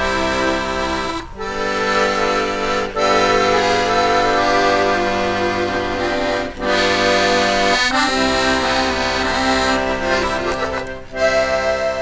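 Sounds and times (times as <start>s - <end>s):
music of sustained chords: 0.0s - 12.0s.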